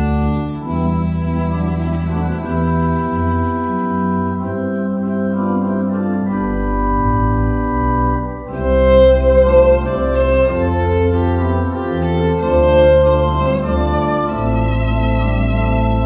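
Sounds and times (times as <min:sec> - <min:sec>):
deep organ pedal bass note: 0:00.0 - 0:16.0
organ chords: 0:00.0 - 0:16.0
violin: 0:00.0 - 0:16.0.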